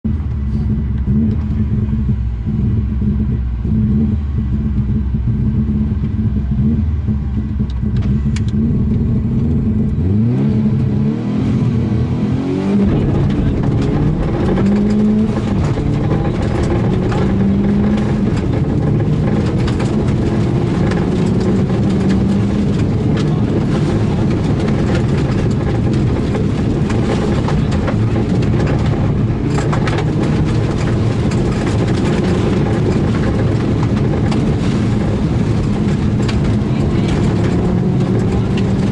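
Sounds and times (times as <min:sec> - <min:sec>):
rally car engine accelerating: 0:00.1 - 0:38.9.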